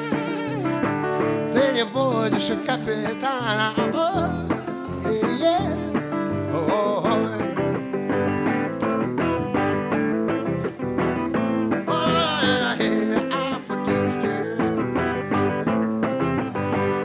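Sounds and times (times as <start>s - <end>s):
live band with guitar: 0.0s - 17.0s.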